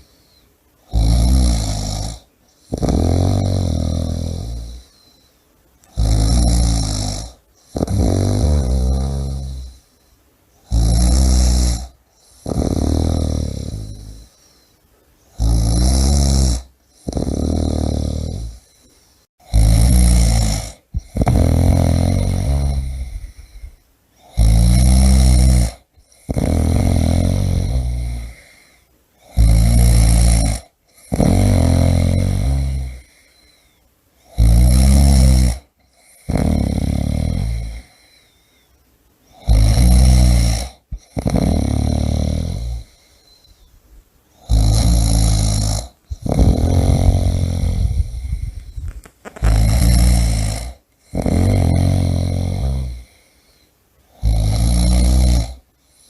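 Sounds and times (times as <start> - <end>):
person snoring: 0.0 - 5.2, 5.8 - 10.0, 10.6 - 14.7, 15.3 - 38.5, 39.3 - 43.7, 44.4 - 56.0.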